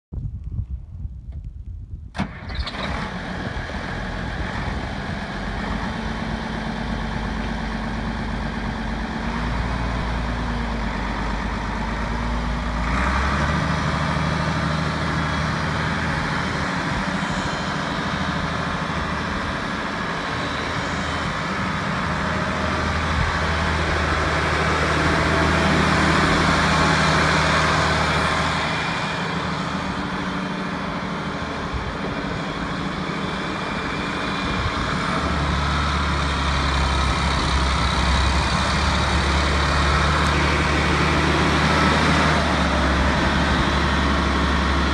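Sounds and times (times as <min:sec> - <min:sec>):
tractor diesel engine running: 0:02.1 - 0:44.9.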